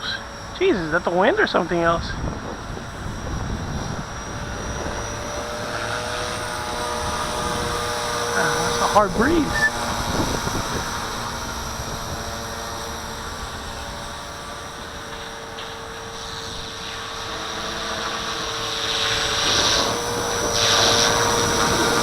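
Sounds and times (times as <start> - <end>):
rc helicopter motor whine: 0.0 - 22.0
wind gusts: 0.0 - 22.0.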